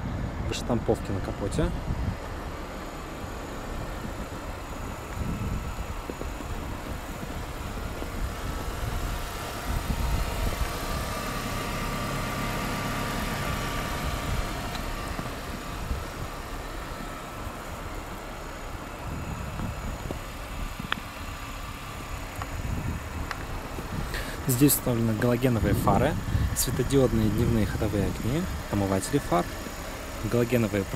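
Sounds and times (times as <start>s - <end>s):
motor vehicle traffic: 0.0s - 30.9s.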